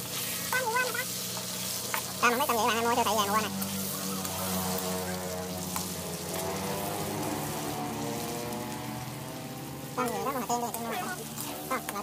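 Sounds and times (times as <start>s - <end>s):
shrimp sizzling in hot oil: 0.0s - 12.0s
spatula turning food in wok: 0.0s - 12.0s.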